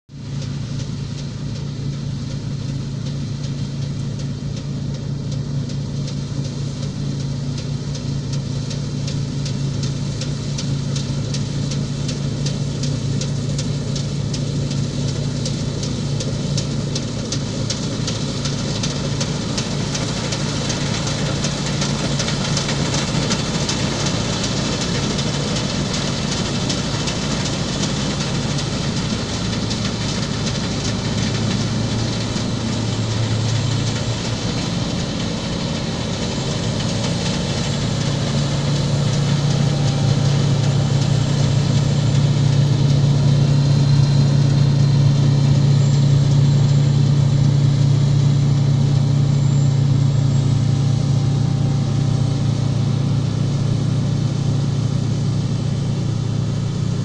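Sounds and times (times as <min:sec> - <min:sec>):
combine harvester engine drone: 0:00.1 - 0:57.0
fast mechanical clatter: 0:00.2 - 0:49.1.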